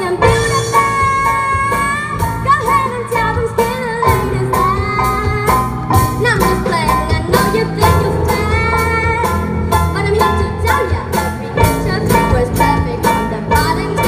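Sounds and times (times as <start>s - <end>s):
girl singing into microphone: 0.0s - 14.0s
live rock band: 0.0s - 14.0s.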